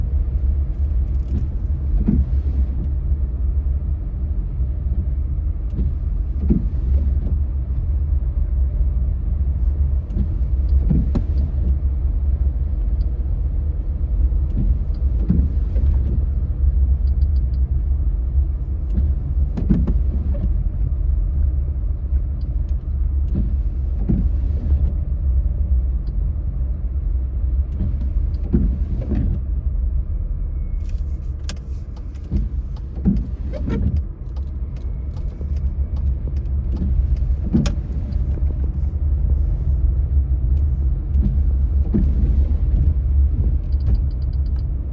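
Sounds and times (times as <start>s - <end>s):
vehicle rumbling on dirt track: 0.0s - 44.9s.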